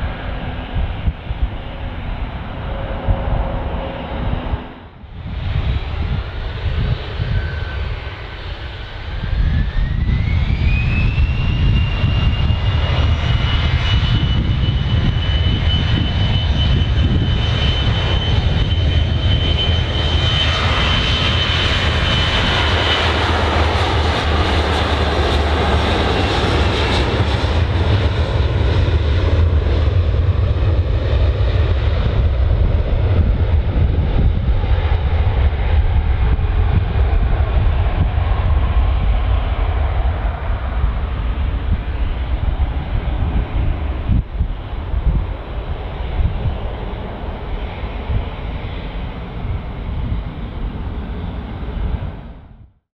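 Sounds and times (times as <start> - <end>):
jet engine roar: 0.0 - 52.8
jet engine whine: 0.0 - 52.9.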